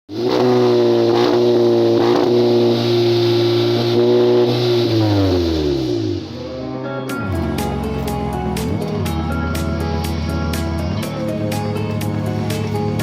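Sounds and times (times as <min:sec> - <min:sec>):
car engine revving high: 0:00.1 - 0:13.0.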